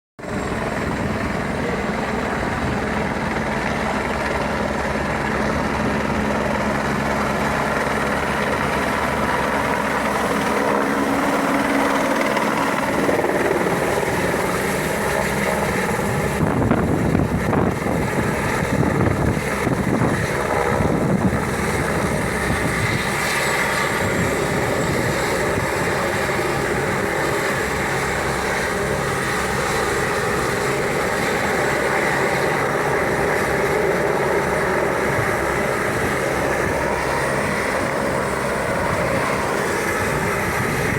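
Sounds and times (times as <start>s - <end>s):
helicopter turbine and rotor: 0.2s - 40.9s.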